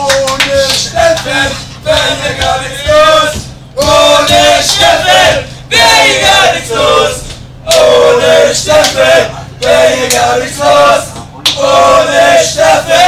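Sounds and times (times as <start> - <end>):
low bus engine hum: 0.0 - 13.0
young men chanting: 0.0 - 13.0.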